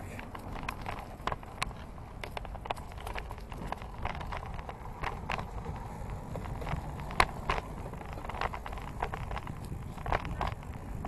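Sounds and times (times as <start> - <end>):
bicycle rumble with clicks and rattles: 0.0 - 11.0.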